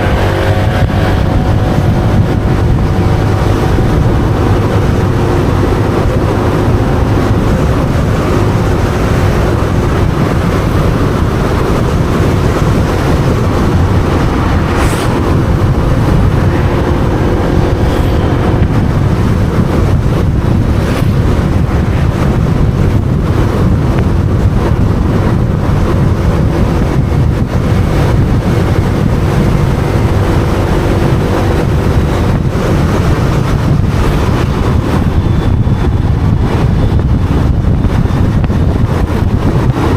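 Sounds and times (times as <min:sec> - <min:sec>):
motorbike engine running: 0:00.0 - 0:39.9
wind rushing over microphone: 0:00.0 - 0:39.9.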